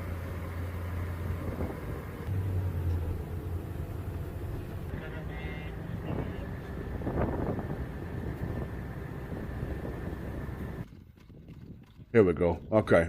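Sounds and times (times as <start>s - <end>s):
vehicle engine humming: 0.0s - 12.2s.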